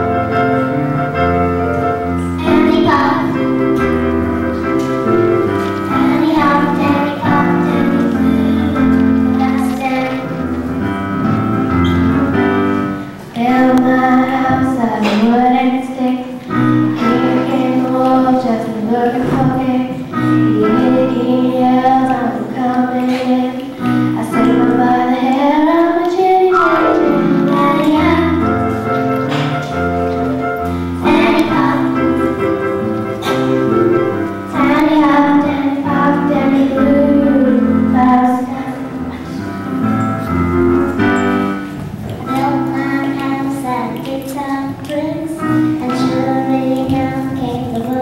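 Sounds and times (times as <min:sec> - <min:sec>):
instrumental accompaniment: 0:00.0 - 0:48.0
young voices singing: 0:02.2 - 0:39.8, 0:40.8 - 0:48.0.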